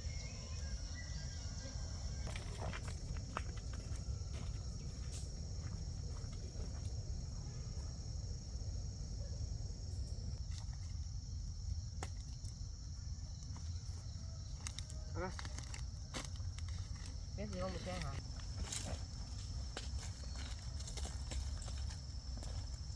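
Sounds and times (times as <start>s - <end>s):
insects droning: 0.0s - 22.9s.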